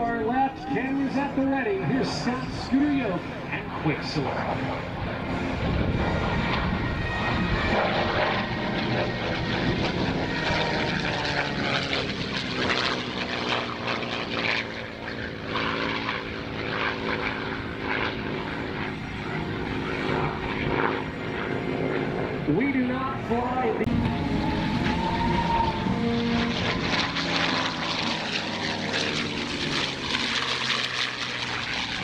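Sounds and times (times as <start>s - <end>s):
propeller plane engine fly-by: 0.0s - 32.0s.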